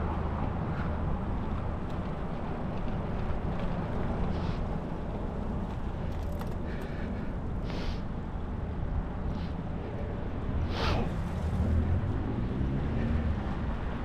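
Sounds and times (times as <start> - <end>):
bicycle tyres on path: 0.0 - 14.0.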